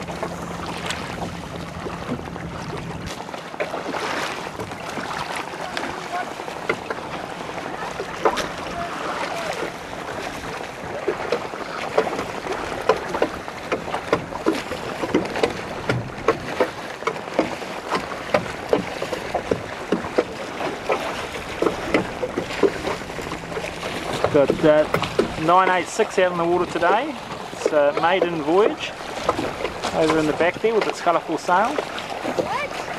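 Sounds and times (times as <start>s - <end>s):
rush of wind and water: 0.0s - 32.9s
waves slapping boat hull: 0.0s - 32.9s.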